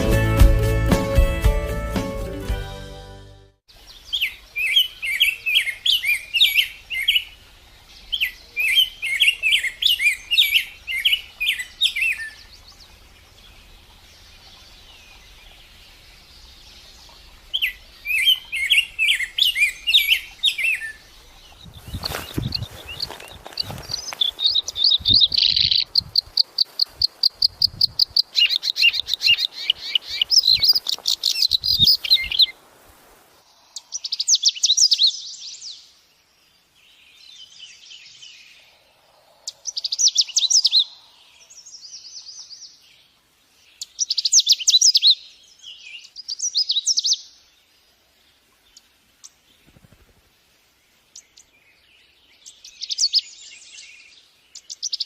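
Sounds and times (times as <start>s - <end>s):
songbird singing: 3.7s - 32.6s, 33.4s - 55.0s.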